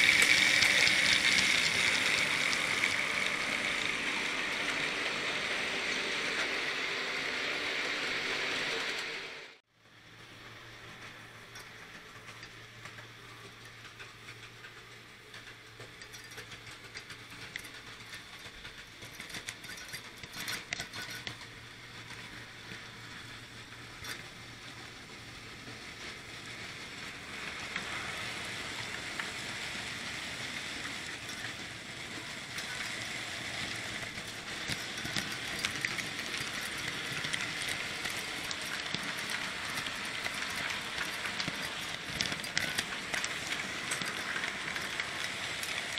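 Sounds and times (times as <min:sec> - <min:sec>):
model train motor whirring: 0:00.0 - 0:09.4, 0:11.8 - 0:45.9.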